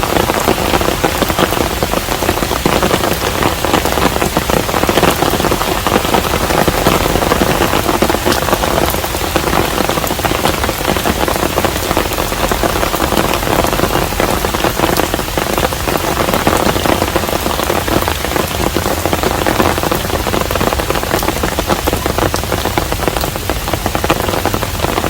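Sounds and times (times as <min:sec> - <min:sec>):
rain falling on a house: 0:00.0 - 0:25.0.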